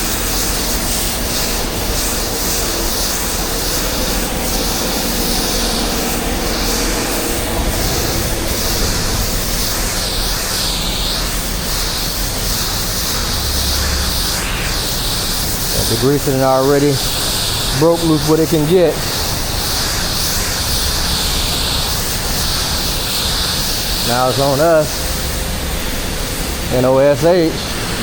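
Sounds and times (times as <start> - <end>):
engine and pump running: 0.0 - 28.0
hiss of pressure washer spray: 0.0 - 28.0.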